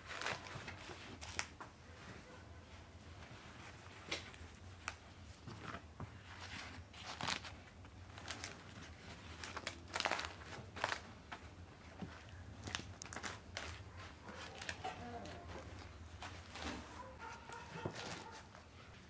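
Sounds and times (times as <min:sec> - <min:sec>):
flatbread crinkling and rustling: 0:00.0 - 0:02.4, 0:03.1 - 0:18.9.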